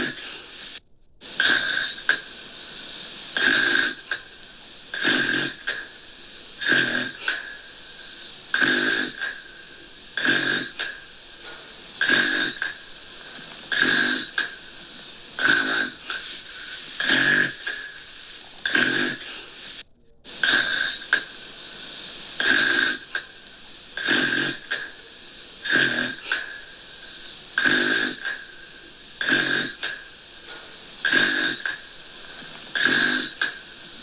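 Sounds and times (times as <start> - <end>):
gentle snoring: 0.0 - 34.0.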